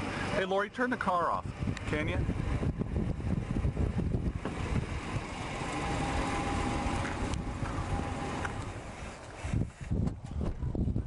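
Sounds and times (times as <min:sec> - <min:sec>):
wind buffeting microphone: 0:01.2 - 0:11.0.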